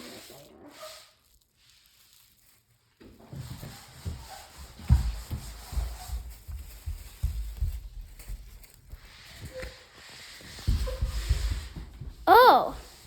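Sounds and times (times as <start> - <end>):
rubbing: 0.0 - 13.0.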